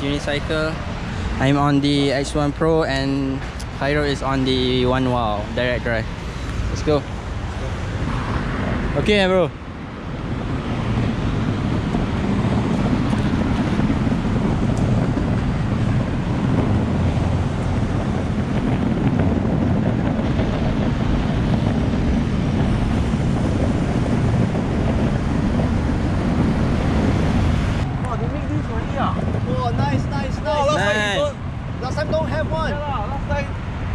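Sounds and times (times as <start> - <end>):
wind noise on microphone: 0.0 - 33.9.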